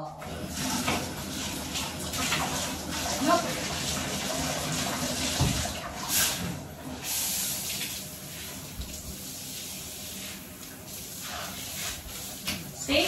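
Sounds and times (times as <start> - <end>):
bathtub tap water running: 0.0 - 13.0.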